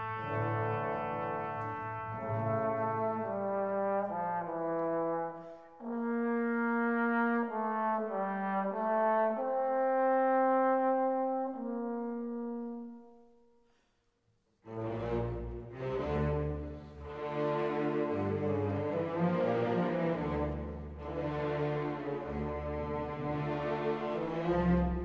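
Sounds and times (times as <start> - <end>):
slow brass melody: 0.0 - 13.6, 14.6 - 25.0.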